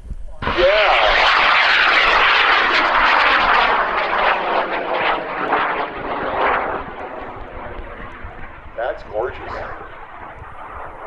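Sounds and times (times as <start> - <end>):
rocket motor roaring: 0.4 - 11.0.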